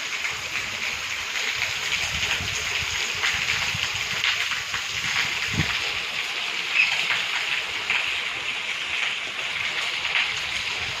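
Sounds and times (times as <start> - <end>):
raindrops splattering: 0.0 - 11.0
steady rain hiss: 0.0 - 11.0.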